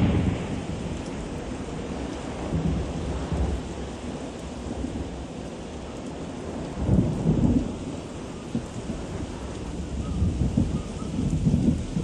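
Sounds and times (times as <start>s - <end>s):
heavy rain: 0.0s - 12.0s
storm wind: 0.0s - 12.0s.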